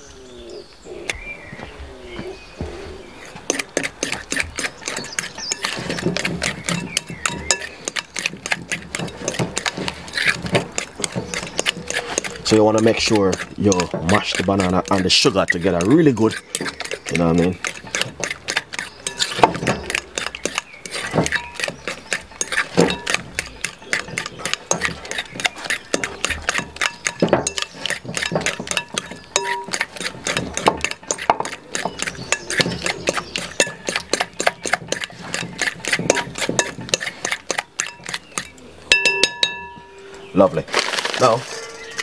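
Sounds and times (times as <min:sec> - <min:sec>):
utensil mashing banana in glass bowl: 0:03.2 - 0:39.6.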